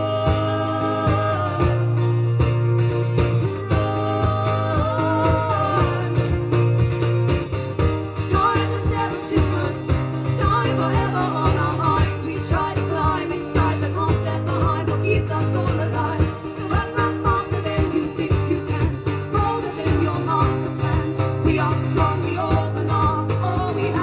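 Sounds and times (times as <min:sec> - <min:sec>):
live band music: 0:00.0 - 0:24.0.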